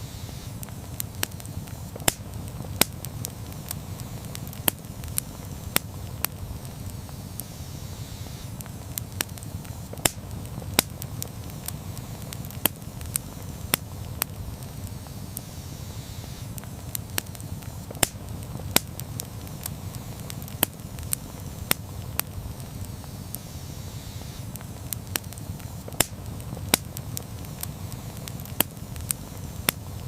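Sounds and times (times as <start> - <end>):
low rumble of flames: 0.0 - 30.0
campfire crackling and popping: 0.1 - 30.0.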